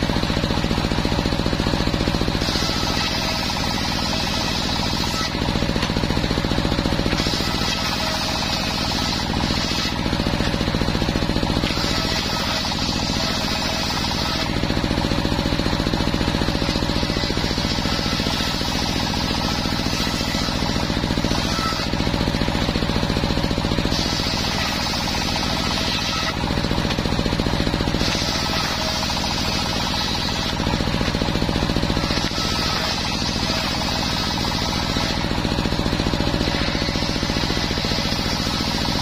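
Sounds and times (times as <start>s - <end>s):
engine running: 0.0s - 39.0s
saw blade cutting wood: 0.0s - 39.0s.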